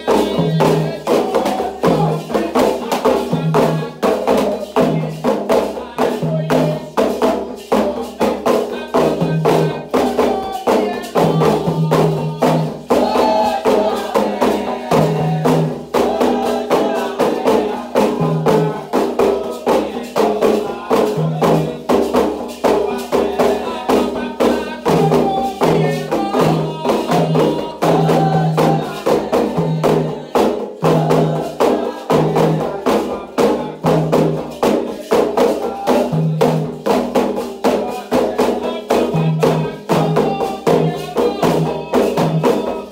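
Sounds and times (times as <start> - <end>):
group singing: 0.0 - 42.9
hand drums beating: 0.0 - 42.9.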